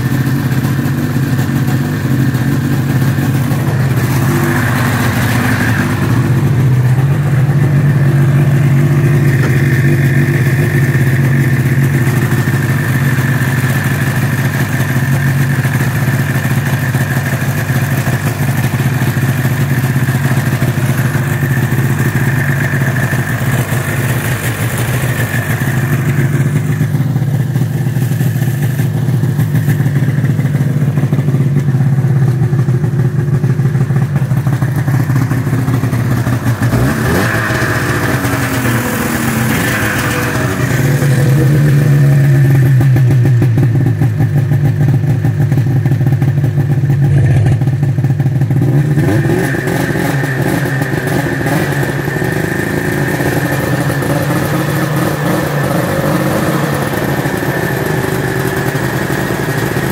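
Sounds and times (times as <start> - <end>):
snowmobile engine idling: 0.0 - 59.9.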